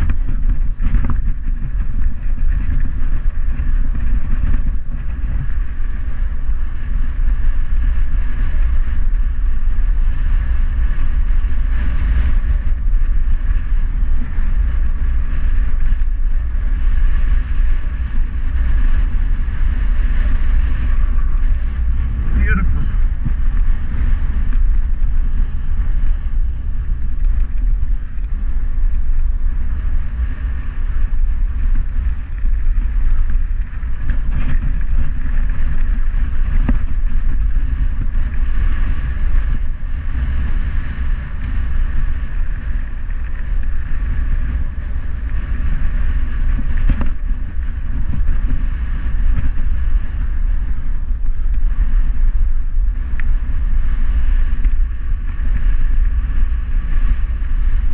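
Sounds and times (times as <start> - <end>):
wind rumble on microphone: 0.0 - 57.9.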